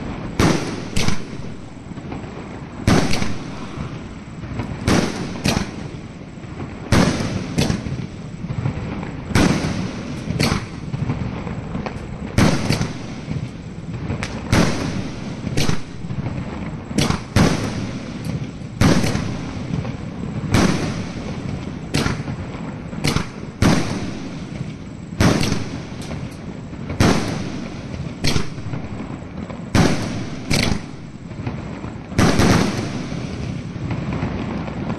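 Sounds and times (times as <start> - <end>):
fireworks bangs: 0.0 - 34.9
fireworks hiss: 0.0 - 34.9.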